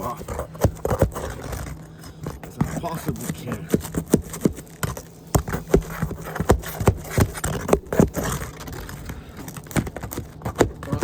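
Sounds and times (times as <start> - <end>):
tool scraping roof shingle: 0.0 - 11.0.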